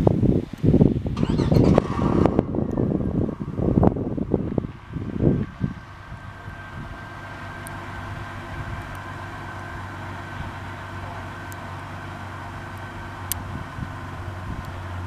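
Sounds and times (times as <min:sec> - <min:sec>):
low hum: 0:01.0 - 0:15.0.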